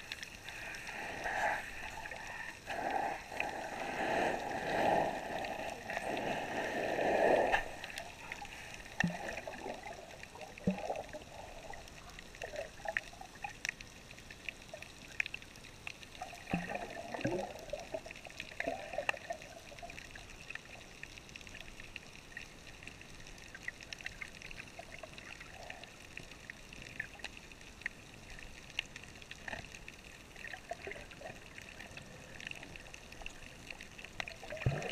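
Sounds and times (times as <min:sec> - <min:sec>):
muffled underwater hiss: 0:00.0 - 0:34.9
sharp underwater clicks and crackles: 0:00.0 - 0:34.9.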